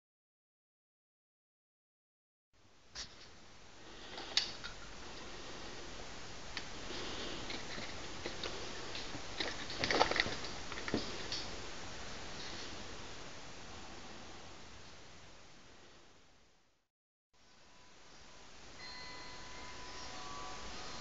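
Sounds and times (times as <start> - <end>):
steady hiss: 2.6 - 16.6, 17.4 - 21.0.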